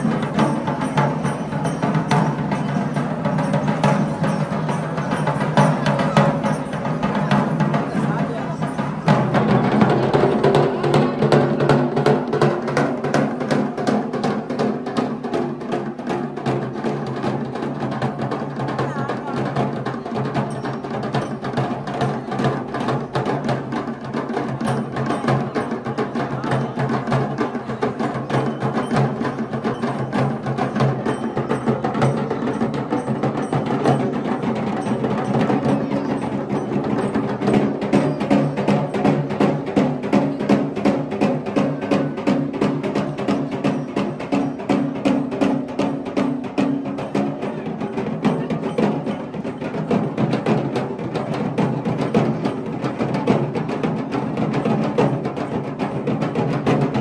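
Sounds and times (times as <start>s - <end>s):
drums playing fast rhythm: 0.0s - 57.0s.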